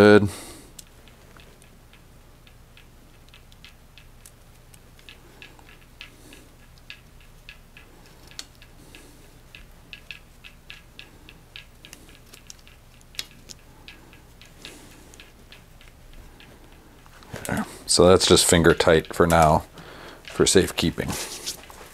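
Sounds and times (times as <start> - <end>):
small metal parts clicking: 0.7 - 21.8.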